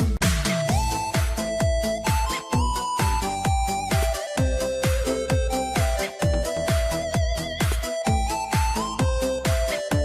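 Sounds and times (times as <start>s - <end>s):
electronic dance beat: 0.0s - 10.0s
electronic wind instrument melody: 0.0s - 10.0s.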